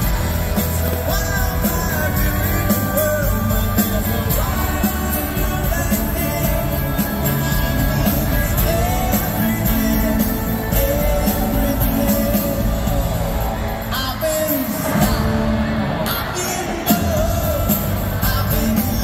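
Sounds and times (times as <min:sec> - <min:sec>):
live pop-rock band: 0:00.0 - 0:19.0
man singing lead vocal: 0:00.0 - 0:19.0.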